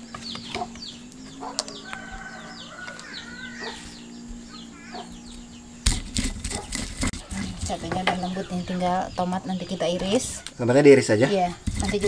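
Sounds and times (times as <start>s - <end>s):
chickens clucking and peeping: 0.0s - 11.6s.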